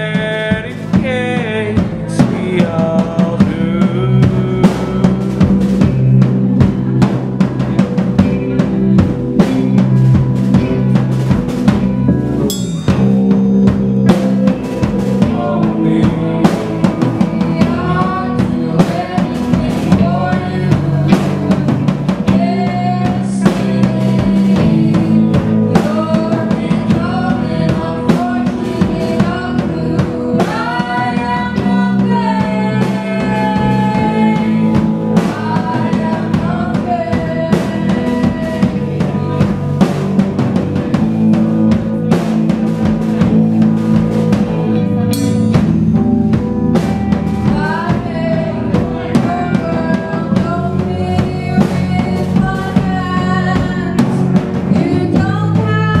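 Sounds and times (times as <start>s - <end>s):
man singing: 0.0s - 11.0s, 14.1s - 39.9s, 47.4s - 56.0s
bass guitar: 0.0s - 56.0s
drum kit: 0.0s - 56.0s
electric guitar: 0.0s - 56.0s.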